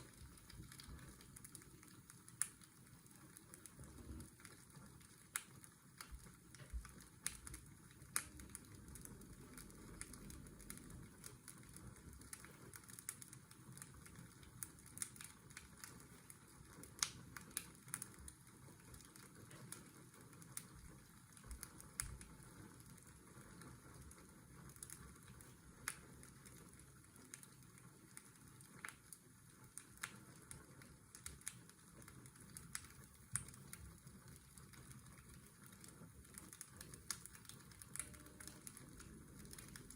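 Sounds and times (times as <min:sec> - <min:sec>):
fireplace crackling: 0:00.0 - 0:39.9.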